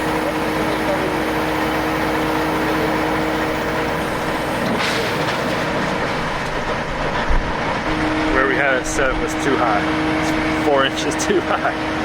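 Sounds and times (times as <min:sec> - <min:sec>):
diesel engine rumbling: 0:00.0 - 0:12.0
engine whine: 0:00.0 - 0:12.0.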